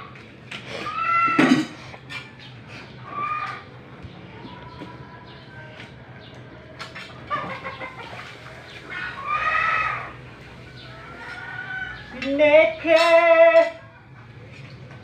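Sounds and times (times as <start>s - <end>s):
chickens calling: 0.0s - 5.5s, 6.2s - 14.8s.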